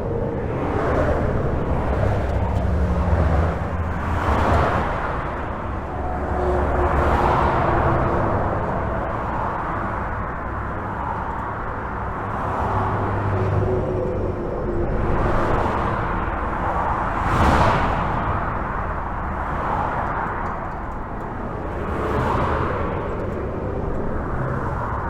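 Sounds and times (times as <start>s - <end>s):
deep low rumble: 0.0s - 10.6s, 11.7s - 25.0s
highway traffic: 0.0s - 25.0s.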